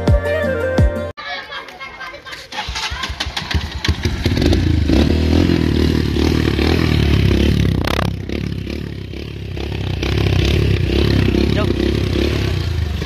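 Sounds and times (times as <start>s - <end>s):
dirt bike engine sputtering: 2.3s - 13.0s.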